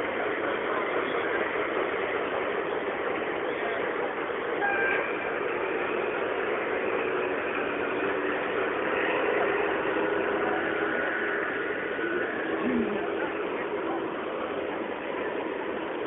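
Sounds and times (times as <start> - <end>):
exhibition hall din: 0.0 - 16.0
model trains running on track: 0.0 - 16.0.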